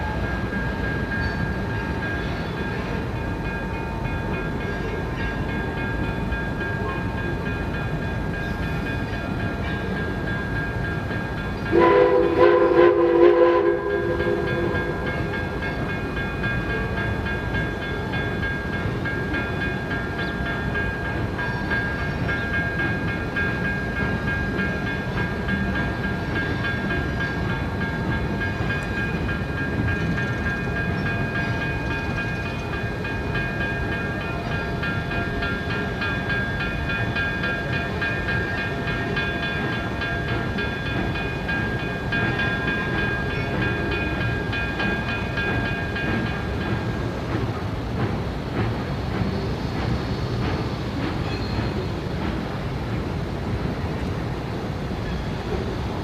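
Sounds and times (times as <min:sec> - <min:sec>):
steam locomotive rumbling: 0:00.0 - 0:56.0.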